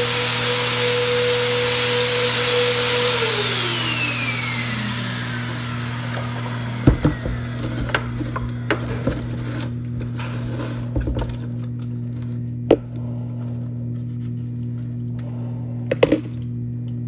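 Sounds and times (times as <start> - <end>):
sprayer motor humming: 0.0 - 13.8.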